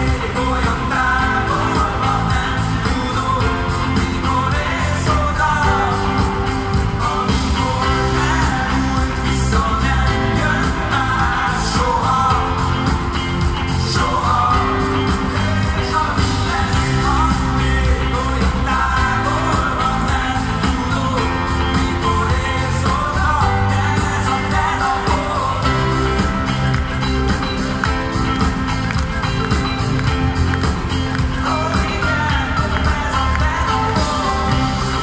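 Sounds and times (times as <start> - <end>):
live rock band playing: 0.0 - 35.0
man singing: 0.0 - 35.0.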